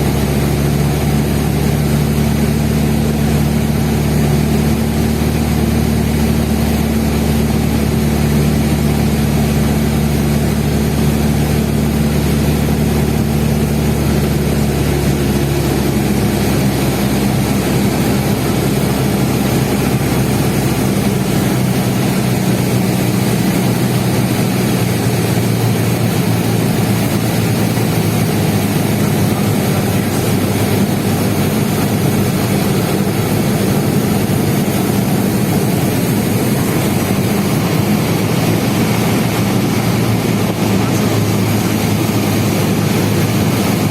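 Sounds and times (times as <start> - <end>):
light aircraft engine droning: 0.0 - 43.9.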